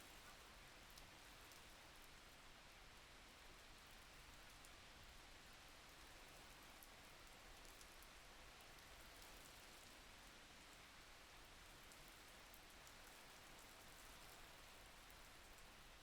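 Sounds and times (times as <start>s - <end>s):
faint steady rain: 0.0s - 16.0s.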